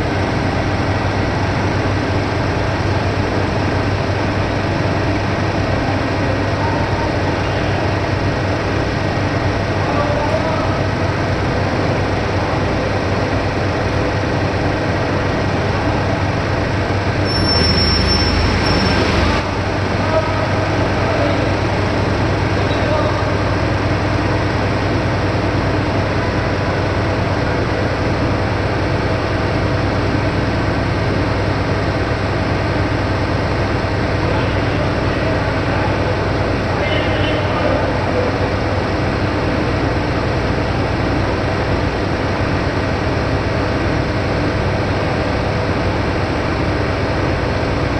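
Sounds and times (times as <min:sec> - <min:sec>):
high machine whine: 0:00.0 - 0:47.9
industrial machinery noise: 0:00.0 - 0:47.9.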